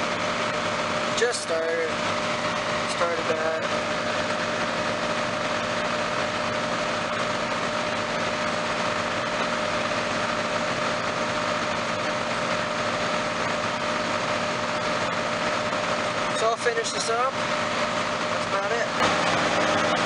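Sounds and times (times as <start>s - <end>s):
diesel tractor engine running: 0.0s - 20.0s
steady mechanical whine: 0.0s - 20.0s.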